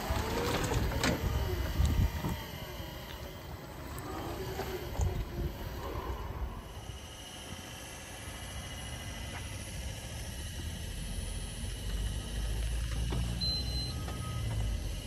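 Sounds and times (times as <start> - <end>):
electric forklift motor whining: 0.0 - 15.0.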